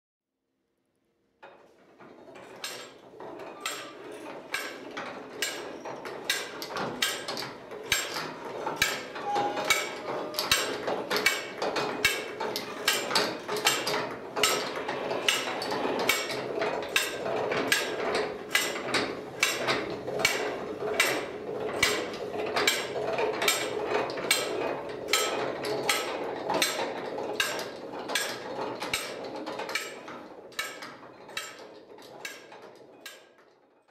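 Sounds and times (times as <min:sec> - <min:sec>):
mechanical whirr of cranked barrier: 0:02.1 - 0:31.0.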